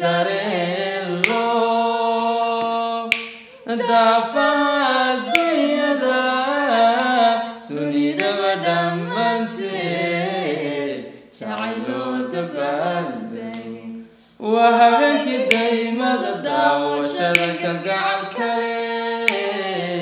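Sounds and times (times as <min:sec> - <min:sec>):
man and woman singing: 0:00.0 - 0:20.0.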